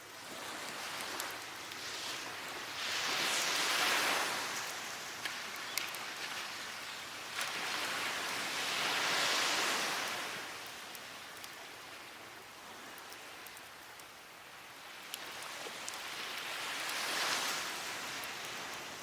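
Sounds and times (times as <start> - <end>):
waves washing onto a beach: 0.0 - 19.0
wood fire crackling: 0.0 - 19.0.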